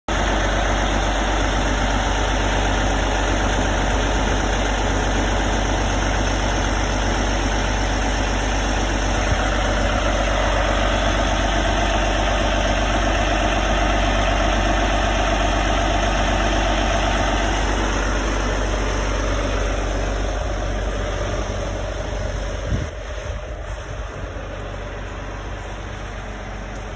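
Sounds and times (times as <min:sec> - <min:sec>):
large engine idling: 0:00.1 - 0:26.9.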